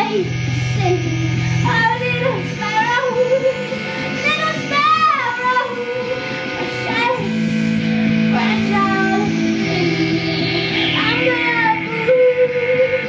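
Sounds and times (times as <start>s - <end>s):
electric keyboard drone: 0.0s - 13.0s
woman singing wavering notes: 0.0s - 13.0s.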